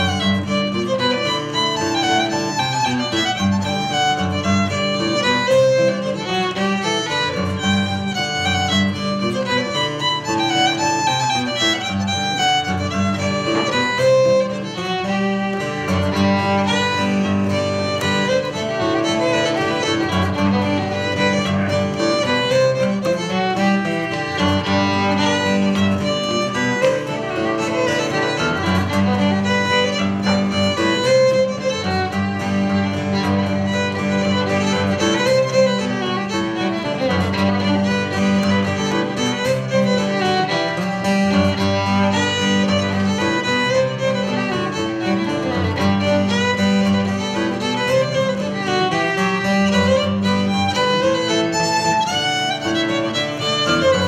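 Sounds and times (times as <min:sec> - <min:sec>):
acoustic guitar accompaniment: 0:00.0 - 0:54.0
fiddle melody: 0:00.0 - 0:54.0.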